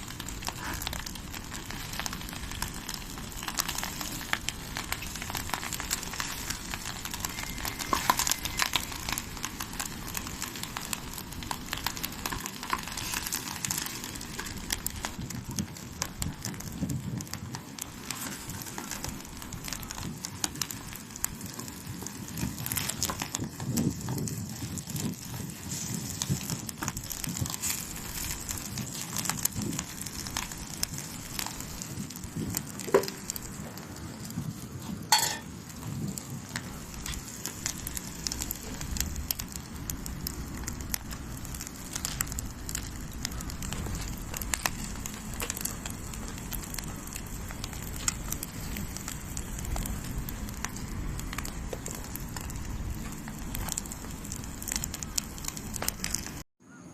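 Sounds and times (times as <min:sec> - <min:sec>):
campfire crackling: 0:00.0 - 0:56.5.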